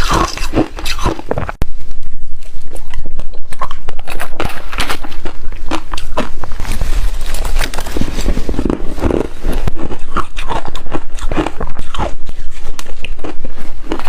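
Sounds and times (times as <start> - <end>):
ice crunching while chewed: 0.0 - 1.6, 2.4 - 14.0.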